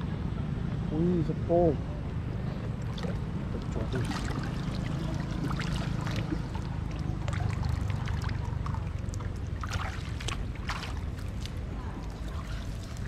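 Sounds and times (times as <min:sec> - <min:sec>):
low steady rumble: 0:00.0 - 0:13.0
bare feet wading through water: 0:02.3 - 0:13.0.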